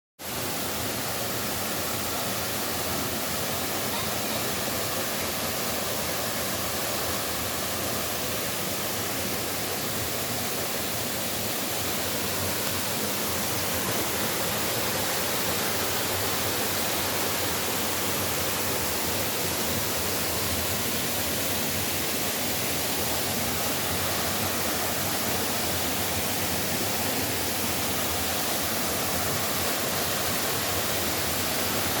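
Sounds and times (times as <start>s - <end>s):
waterfall rushing: 0.2s - 32.0s.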